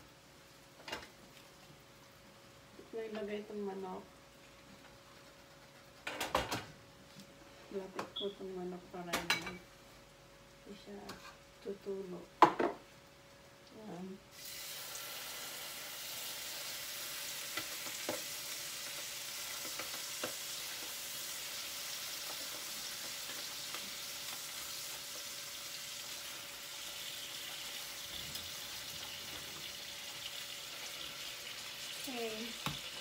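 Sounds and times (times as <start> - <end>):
chicken sizzling in a frying pan: 0.0 - 7.1, 7.7 - 33.0.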